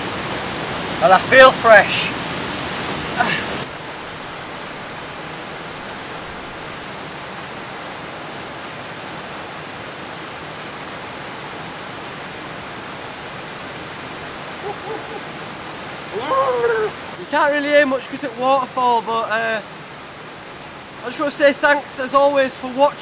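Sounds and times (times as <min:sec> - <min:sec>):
waterfall and stream rushing: 0:00.0 - 0:23.0.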